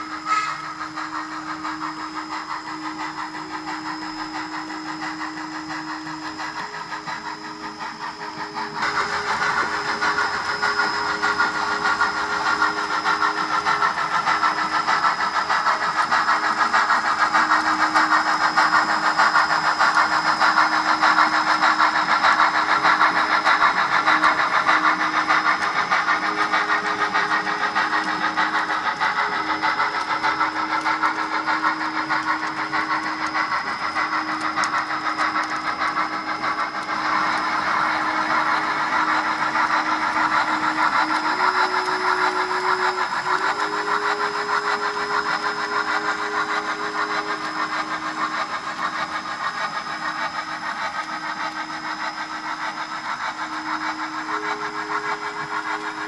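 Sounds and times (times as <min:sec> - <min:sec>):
model train motor humming: 0:00.0 - 0:56.0.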